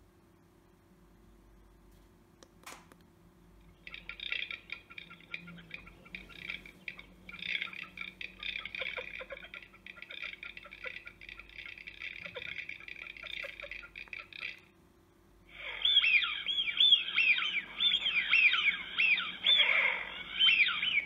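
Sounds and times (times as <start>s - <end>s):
rapid bird call chatter from speaker: 3.6s - 21.0s.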